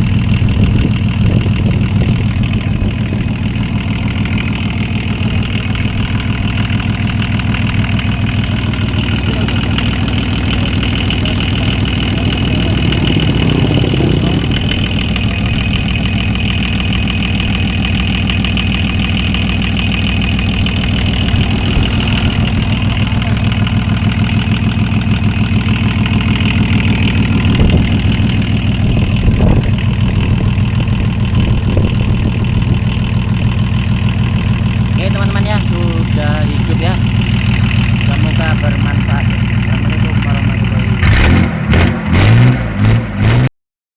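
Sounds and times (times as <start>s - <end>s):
diesel engine idling: 0.0s - 43.4s.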